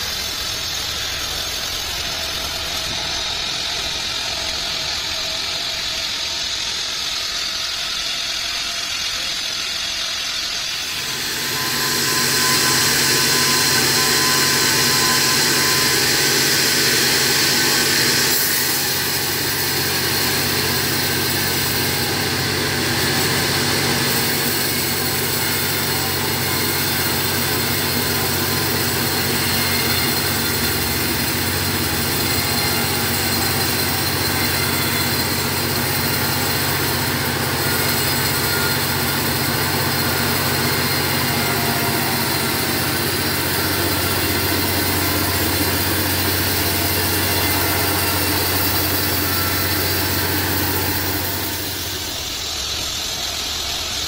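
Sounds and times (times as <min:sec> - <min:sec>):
band sawmill hum and hiss: 0:00.0 - 0:54.0.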